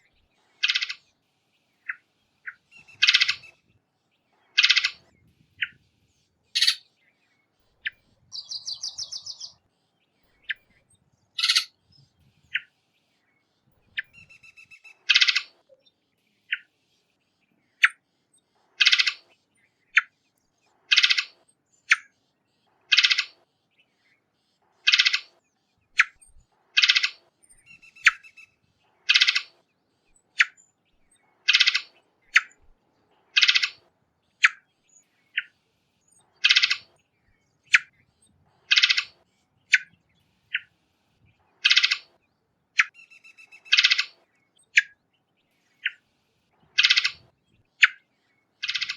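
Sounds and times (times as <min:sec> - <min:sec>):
rapid bird trill: 0:00.0 - 0:03.8, 0:04.4 - 0:12.7, 0:13.6 - 0:20.2, 0:20.8 - 0:22.2, 0:22.8 - 0:42.2, 0:42.8 - 0:48.9.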